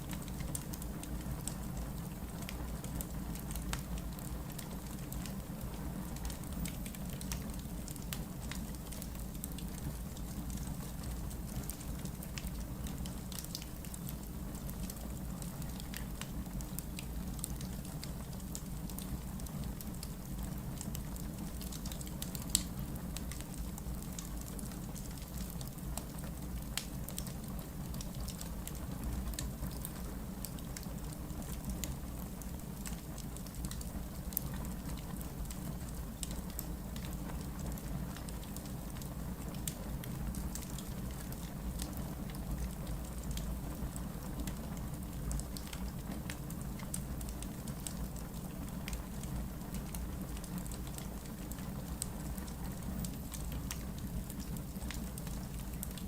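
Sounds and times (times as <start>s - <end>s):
crackles and pops of burning wood: 0.1s - 56.0s.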